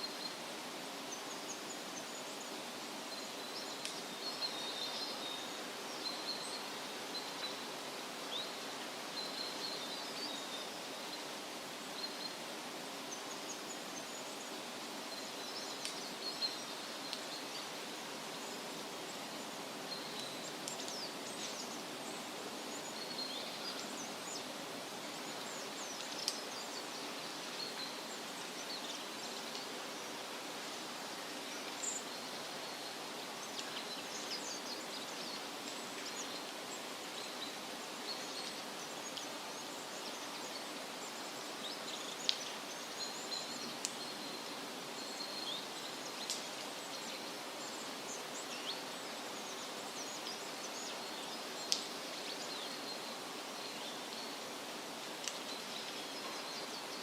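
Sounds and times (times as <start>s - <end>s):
small birds chirping: 0.0s - 57.0s
wind rustling leaves: 0.0s - 57.0s.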